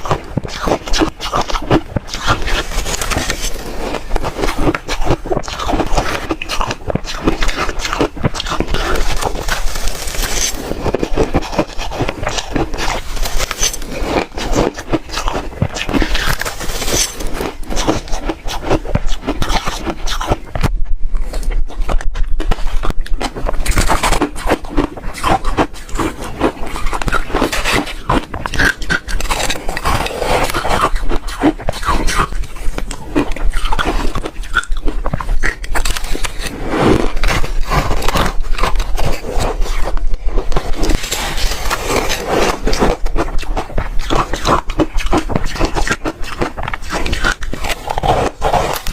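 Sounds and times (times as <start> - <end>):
chewing ice crunching: 0.0 - 20.7, 21.3 - 48.9.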